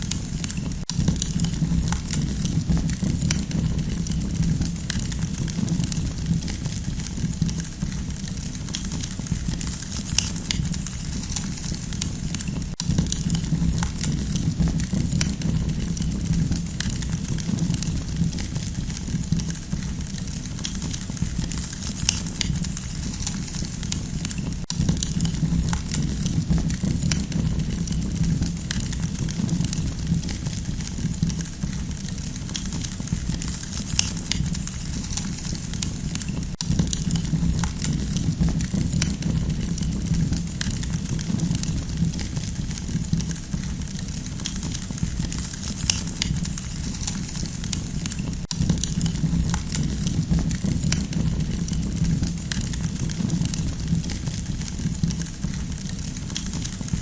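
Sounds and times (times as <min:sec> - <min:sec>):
campfire flames rumbling: 0:00.0 - 0:57.0
fire crackling and popping: 0:00.0 - 0:57.0.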